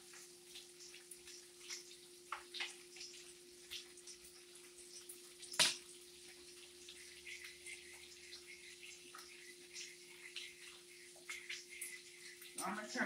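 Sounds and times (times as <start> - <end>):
food frying pops and crackles: 0.0 - 13.0
grits boiling: 0.0 - 13.0.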